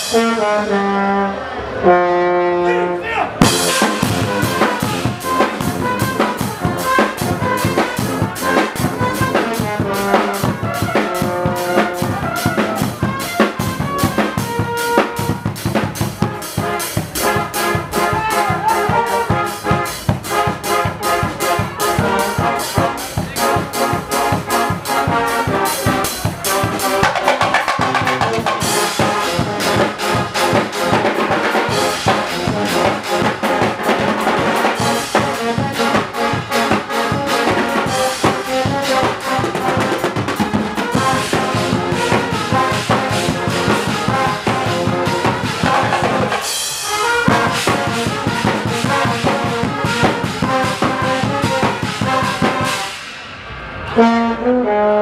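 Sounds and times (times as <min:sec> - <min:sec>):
brass band playing: 0:00.0 - 0:55.0
bass drum and cymbals: 0:03.4 - 0:55.0.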